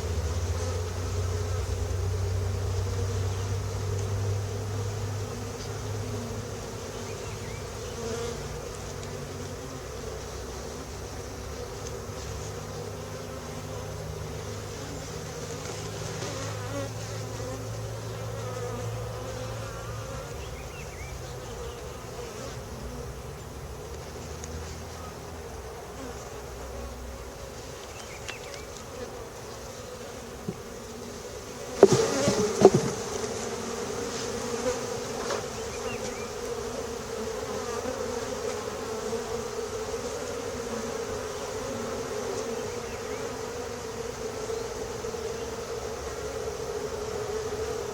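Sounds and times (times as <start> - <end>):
bees buzzing at hive: 0.0 - 47.9.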